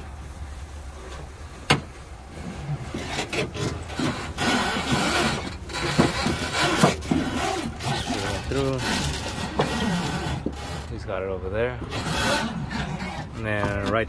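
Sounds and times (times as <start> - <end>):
cable scraping against metal: 2.4 - 14.0.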